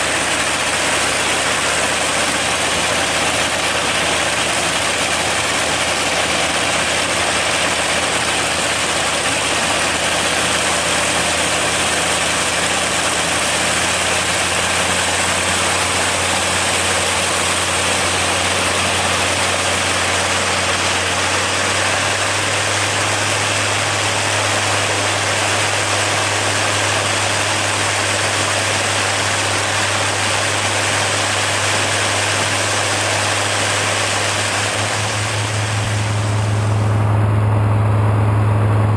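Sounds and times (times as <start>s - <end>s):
aircraft engine drone: 0.0s - 38.9s
propeller rushing noise: 0.0s - 38.9s.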